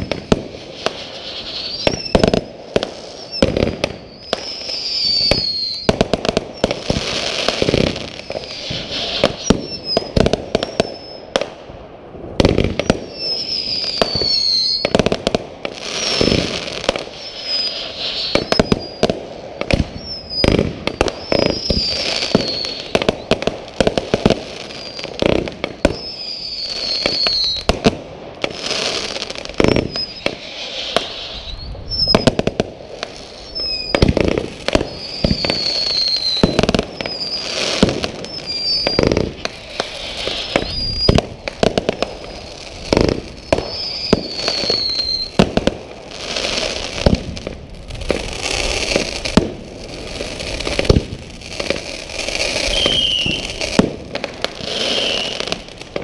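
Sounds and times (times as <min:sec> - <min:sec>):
falling firework whistles: 0:00.0 - 0:11.6, 0:12.4 - 0:56.0
fireworks bangs: 0:00.0 - 0:56.0
hissing crackle of fireworks: 0:00.0 - 0:56.0.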